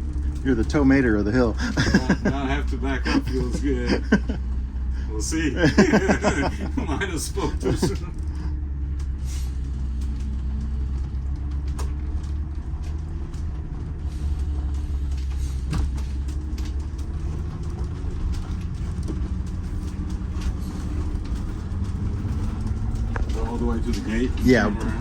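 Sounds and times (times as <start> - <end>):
diesel engine droning under load: 0.0 - 25.0.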